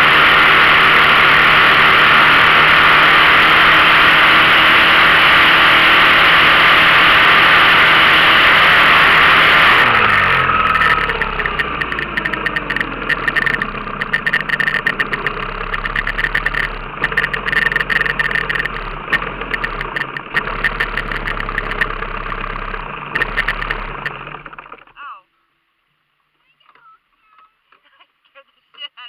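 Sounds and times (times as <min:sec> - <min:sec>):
outboard motor throttling back: 0:00.0 - 0:24.9.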